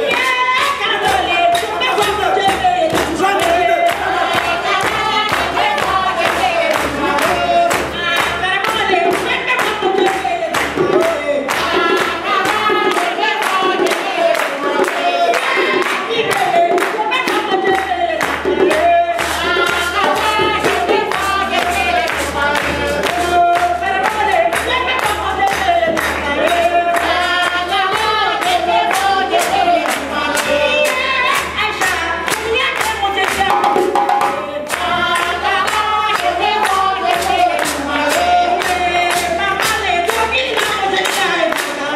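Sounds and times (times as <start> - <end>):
djembe drumming: 0.0 - 41.9
voices singing: 0.0 - 41.9.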